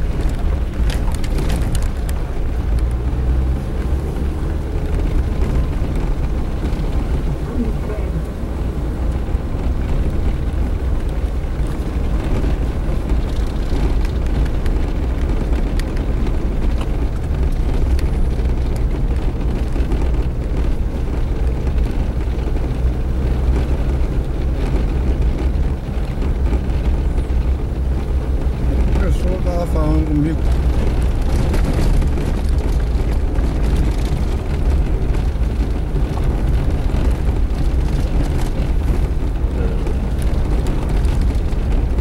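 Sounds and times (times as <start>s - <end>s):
car engine rumble: 0.0s - 42.0s
tyres on dirt road: 0.0s - 42.0s.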